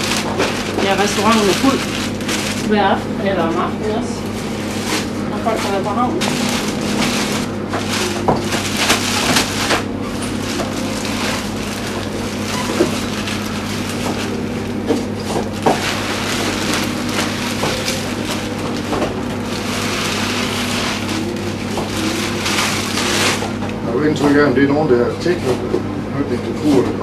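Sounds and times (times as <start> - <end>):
barley pouring: 0.0 - 2.9, 4.7 - 23.6
plastic bag crinkling: 0.0 - 3.2, 4.3 - 23.7
steady low hum: 0.0 - 27.0.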